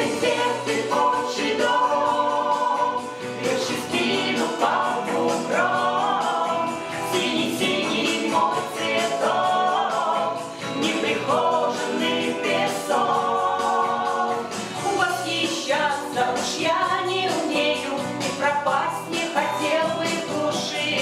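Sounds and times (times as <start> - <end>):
group singing in harmony: 0.0 - 21.0.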